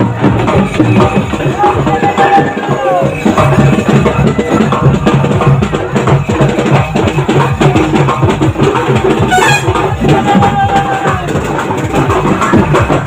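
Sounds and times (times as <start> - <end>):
festival drumming: 0.0 - 13.0.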